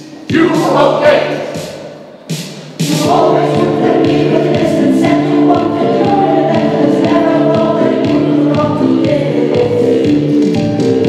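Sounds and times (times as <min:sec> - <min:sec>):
choir singing: 0:00.0 - 0:01.9, 0:02.8 - 0:11.0.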